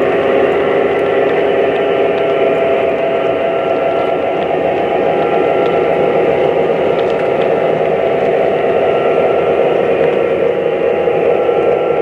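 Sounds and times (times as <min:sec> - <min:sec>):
metal wheels rolling on track: 0:00.0 - 0:12.0
model train diesel engine sound: 0:00.0 - 0:12.0.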